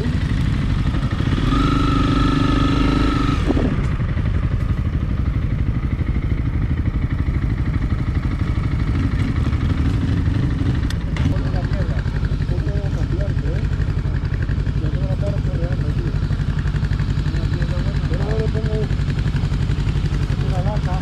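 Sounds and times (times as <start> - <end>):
motorcycle engine running at low revs: 0.0 - 21.0.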